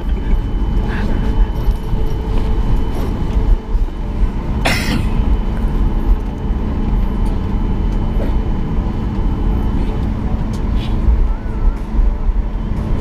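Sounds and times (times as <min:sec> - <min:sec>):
airplane cabin rumble: 0:00.0 - 0:13.0
faint engine whine: 0:00.0 - 0:13.0.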